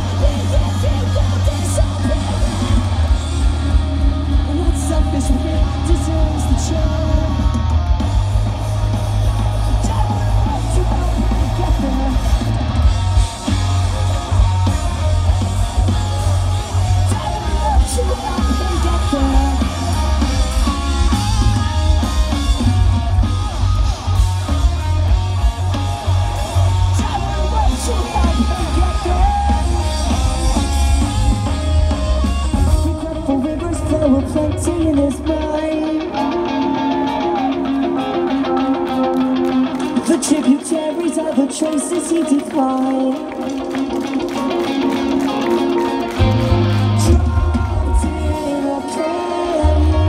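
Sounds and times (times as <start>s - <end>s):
person singing: 0.0s - 7.8s, 13.4s - 22.7s, 26.1s - 50.0s
drum kit: 0.0s - 38.0s, 43.2s - 50.0s
electric guitars: 0.0s - 50.0s
rock band playing loud: 0.0s - 50.0s.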